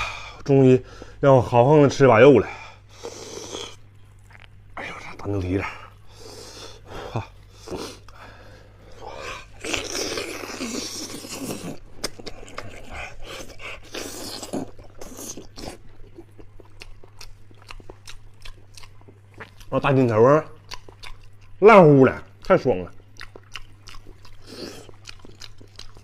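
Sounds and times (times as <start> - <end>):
person chewing close to microphone: 3.0 - 6.5, 7.2 - 26.0.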